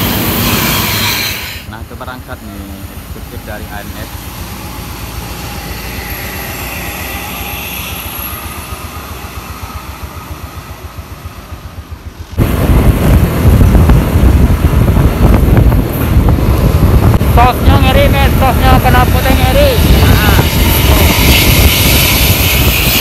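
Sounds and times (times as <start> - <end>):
bus exhaust rumble with whine: 1.6 - 23.0.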